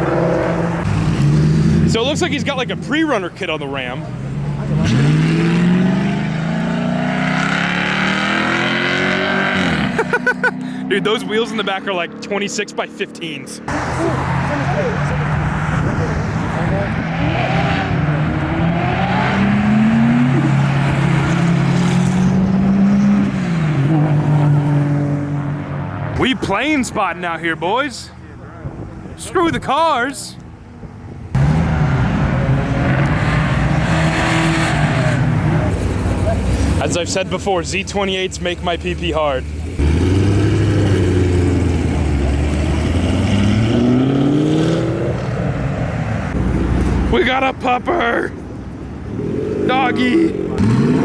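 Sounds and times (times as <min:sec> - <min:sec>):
car engine revving: 0:00.0 - 0:29.5, 0:31.0 - 0:51.0.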